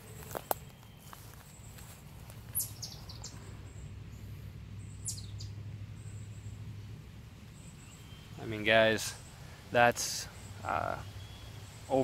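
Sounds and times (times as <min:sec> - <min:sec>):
songbird calling: 0:00.0 - 0:12.0
steady low rumble: 0:00.0 - 0:12.0.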